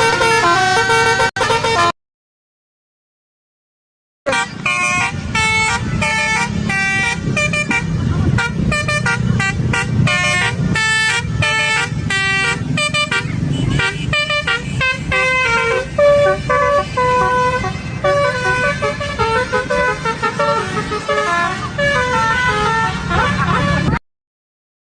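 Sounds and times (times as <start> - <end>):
musical air horn toots: 0.0 - 1.9, 4.3 - 24.0.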